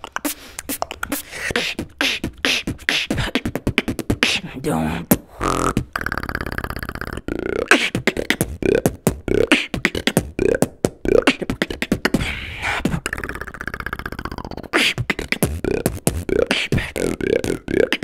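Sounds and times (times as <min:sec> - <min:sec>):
human beatboxing: 0:00.0 - 0:18.0.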